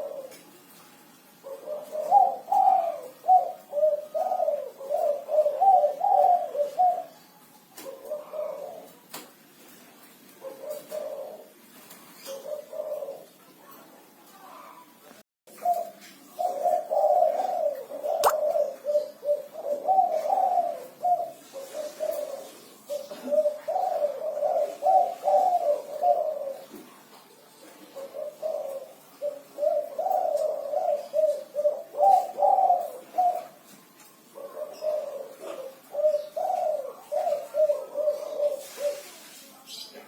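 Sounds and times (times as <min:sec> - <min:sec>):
dove cooing: 0:00.0 - 0:39.8.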